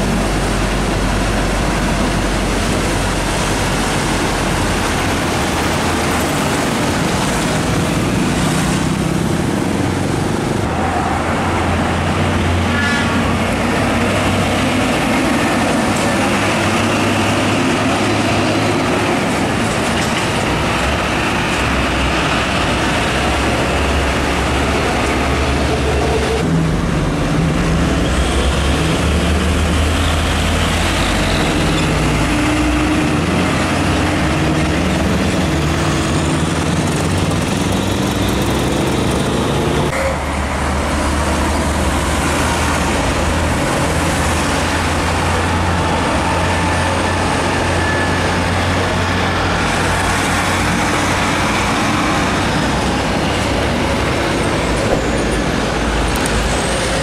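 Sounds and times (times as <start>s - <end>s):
diesel trucks passing: 0.0s - 57.0s
road traffic noise: 0.0s - 57.0s.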